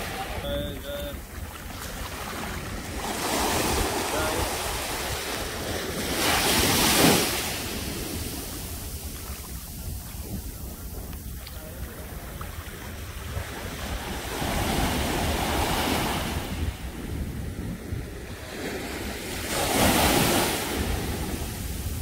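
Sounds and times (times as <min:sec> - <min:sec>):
small waves washing: 0:00.0 - 0:22.0
wind rumble on microphone: 0:00.0 - 0:22.0.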